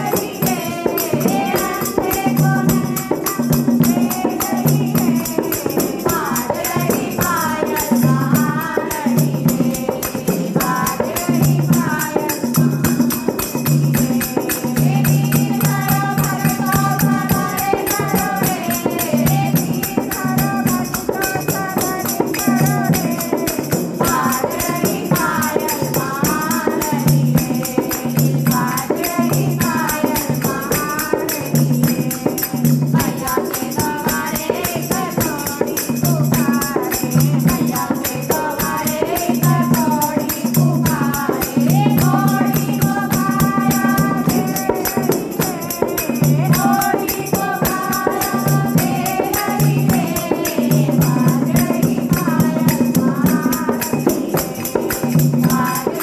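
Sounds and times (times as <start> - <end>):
person singing a melody: 0.0 - 13.4, 14.5 - 56.0
jingling hand percussion: 0.0 - 56.0.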